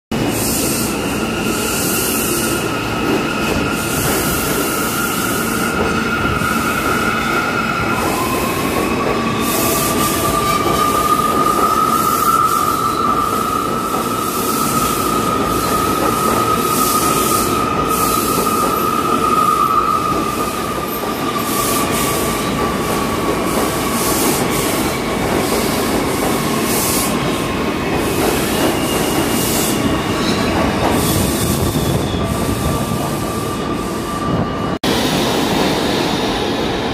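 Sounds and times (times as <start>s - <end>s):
high squeal of train: 0.1s - 36.9s
subway train wheels rumbling: 0.1s - 36.9s.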